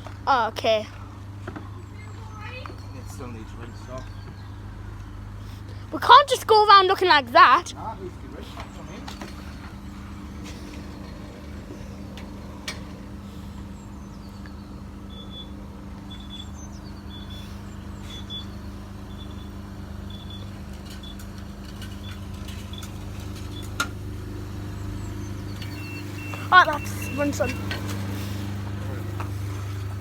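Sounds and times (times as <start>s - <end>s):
car wash equipment humming: 0.1s - 30.0s.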